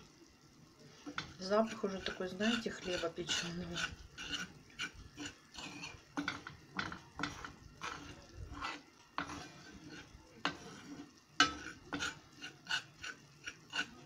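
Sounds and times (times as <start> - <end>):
spoon scraping frying pan: 0.9 - 14.0.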